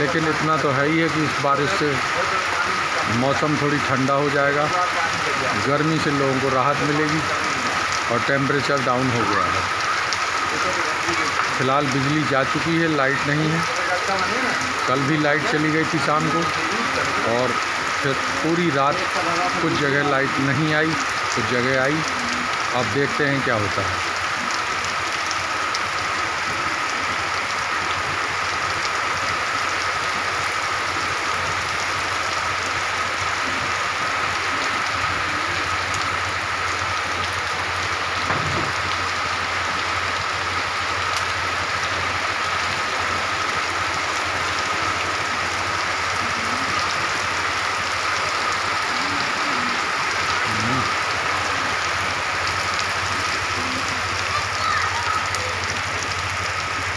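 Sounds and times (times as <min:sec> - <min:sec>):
heavy rain on wet pavement: 0:00.0 - 0:56.9.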